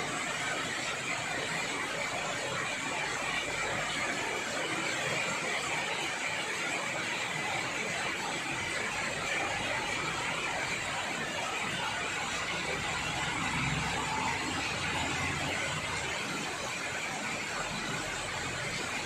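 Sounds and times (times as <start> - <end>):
heavy rain hissing: 0.1 - 19.0.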